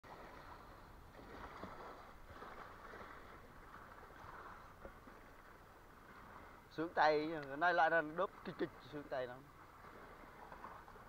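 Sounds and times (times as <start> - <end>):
wind and water hiss: 0.0 - 11.0.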